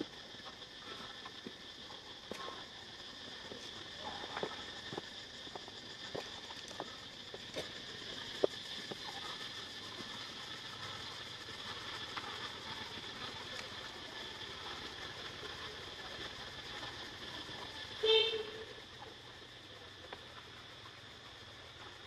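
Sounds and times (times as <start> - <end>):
high-pitched outdoor hum: 0.0 - 22.0.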